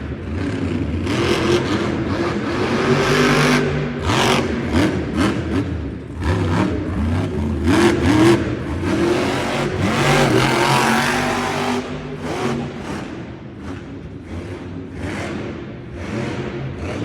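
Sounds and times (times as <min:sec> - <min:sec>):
broad rush of noise: 0:00.0 - 0:17.0
monster truck engine revving: 0:00.0 - 0:17.0.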